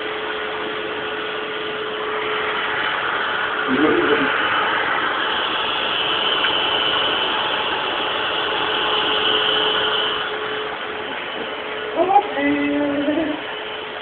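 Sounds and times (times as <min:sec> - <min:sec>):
vacuum cleaner whining: 0:00.0 - 0:14.0.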